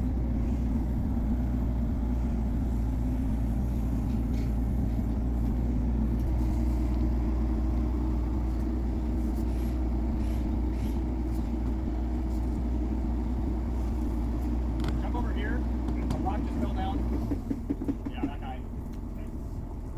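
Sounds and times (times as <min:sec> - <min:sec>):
diesel engine rumbling: 0:00.0 - 0:19.9.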